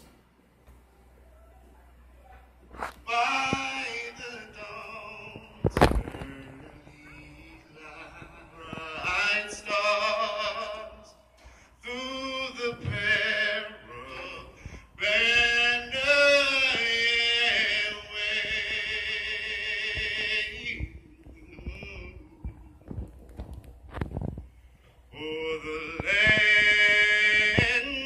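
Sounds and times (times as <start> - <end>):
person singing over loudspeaker: 2.8 - 23.2, 25.1 - 28.0.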